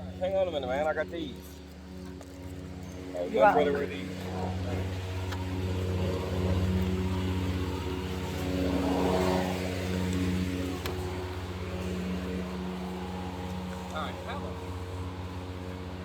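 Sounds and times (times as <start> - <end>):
lawnmower engine running: 0.0 - 16.0.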